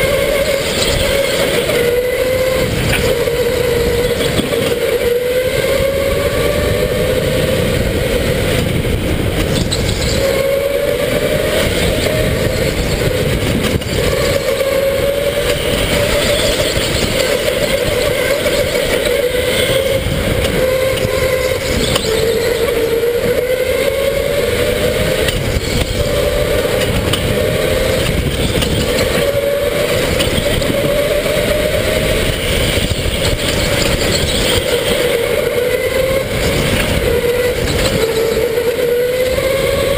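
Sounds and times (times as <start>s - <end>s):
electric go-kart motor whining: 0.0s - 39.9s
steady rushing noise: 0.0s - 39.9s.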